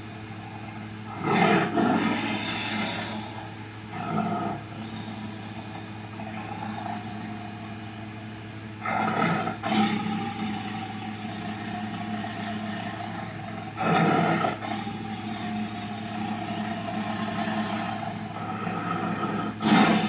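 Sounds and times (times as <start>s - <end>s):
dinosaur growl: 1.1s - 7.8s, 8.8s - 20.0s
dinosaur roar: 1.1s - 7.8s, 8.8s - 20.0s.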